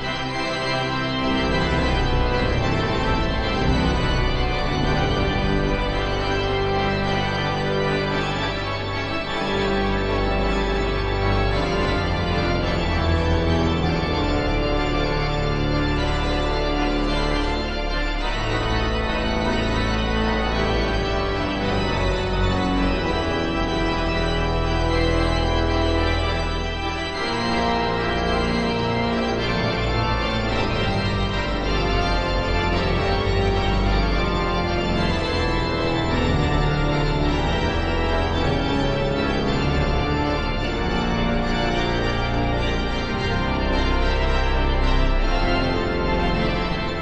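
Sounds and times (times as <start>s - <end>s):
deep organ pedal bass notes: 0.0s - 47.0s
organ chords: 0.0s - 47.0s.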